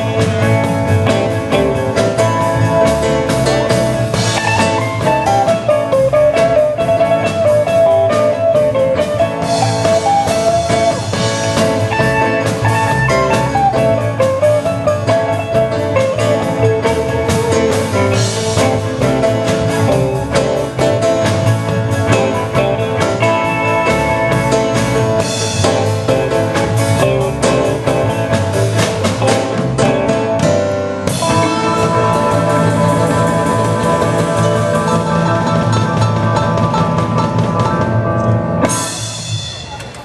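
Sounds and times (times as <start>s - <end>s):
drum kit playing: 0.0s - 40.0s
electric guitars: 0.0s - 40.0s.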